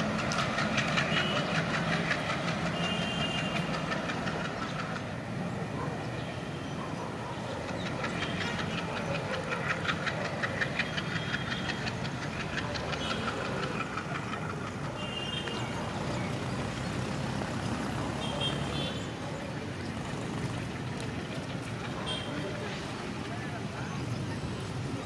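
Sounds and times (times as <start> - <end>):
diesel locomotive engine rumbling: 0.0 - 25.0.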